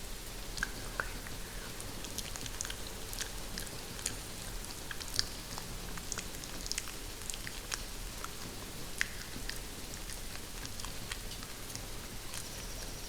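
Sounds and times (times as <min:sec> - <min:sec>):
sharp ticks of raindrops: 0:00.0 - 0:12.8.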